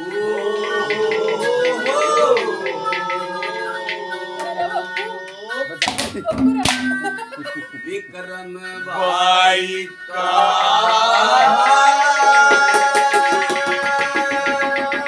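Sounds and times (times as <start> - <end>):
man singing: 0.0 - 5.9, 7.5 - 15.0.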